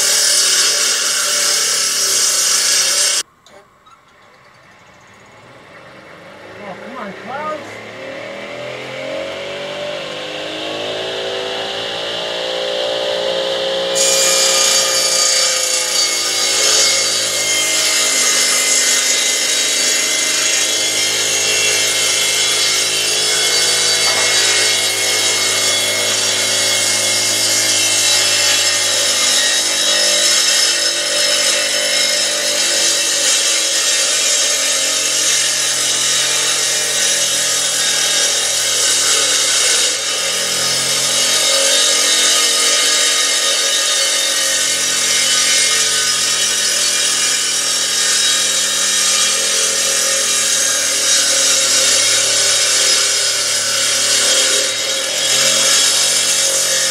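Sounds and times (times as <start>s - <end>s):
saw cutting rasp: 0.0s - 3.3s, 13.9s - 56.9s.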